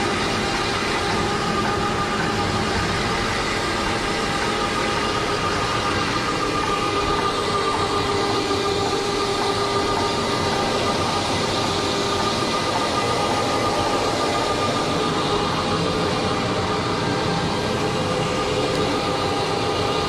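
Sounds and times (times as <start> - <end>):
carpet extraction machine drone: 0.0 - 20.0.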